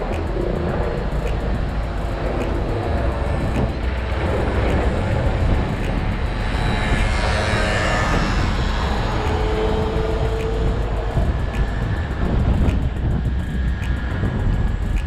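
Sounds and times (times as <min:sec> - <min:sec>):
wind rumble while cycling: 0:00.0 - 0:15.0.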